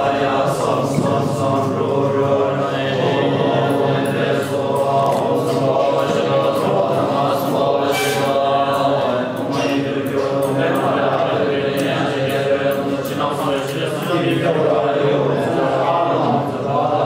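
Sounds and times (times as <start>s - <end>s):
monks chanting: 0.0s - 17.0s.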